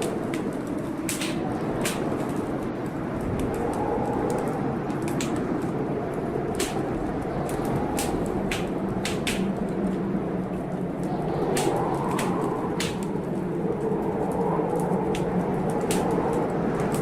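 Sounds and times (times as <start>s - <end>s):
blizzard wind gusting: 0.0s - 17.0s
wood fire crackling and popping: 0.0s - 17.0s.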